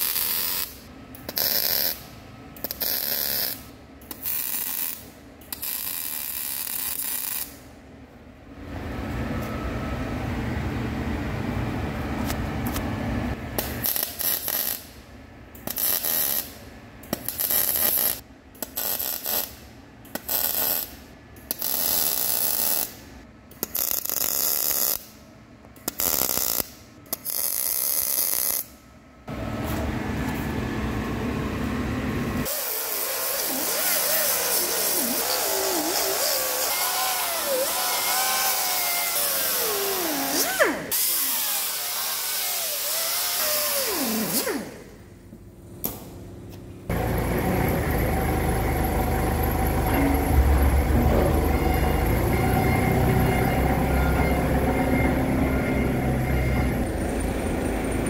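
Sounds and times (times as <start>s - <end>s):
workshop tool and machining noises: 0.0s - 10.4s, 12.0s - 58.0s.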